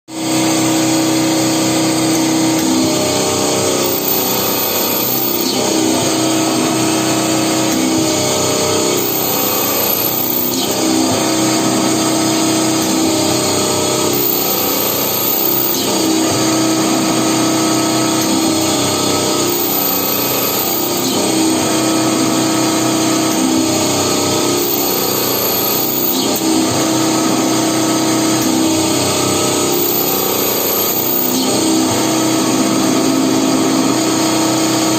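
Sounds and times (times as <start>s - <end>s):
drilling machine running: 0.1s - 34.9s
motor noise: 0.1s - 34.9s.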